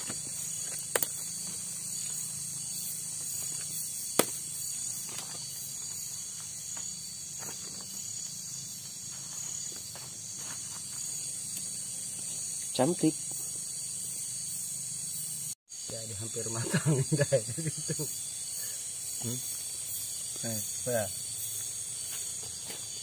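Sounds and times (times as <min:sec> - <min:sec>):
insects chirping at night: 0:00.0 - 0:23.0.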